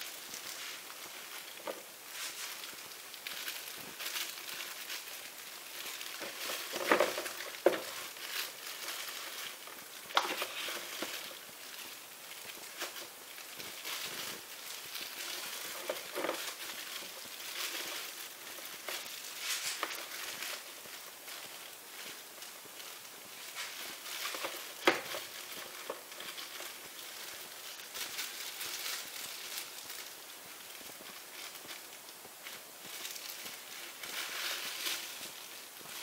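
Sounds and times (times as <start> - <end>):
plastic gloves crinkling: 0.0 - 36.0.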